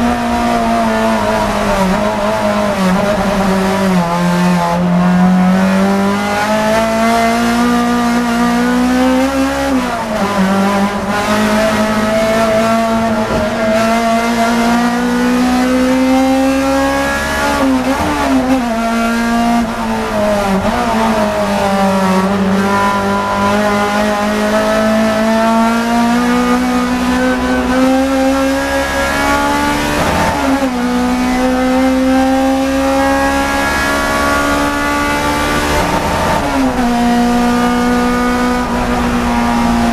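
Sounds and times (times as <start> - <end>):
racing car engine accelerating: 0.0 - 39.9.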